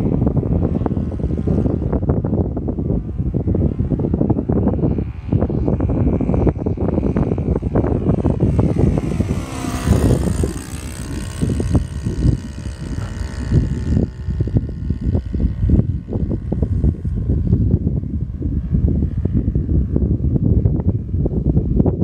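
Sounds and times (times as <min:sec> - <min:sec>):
propeller plane engine droning: 0:00.0 - 0:22.0
sweeping propeller tone: 0:00.0 - 0:22.0
wind buffeting microphone: 0:00.0 - 0:22.0.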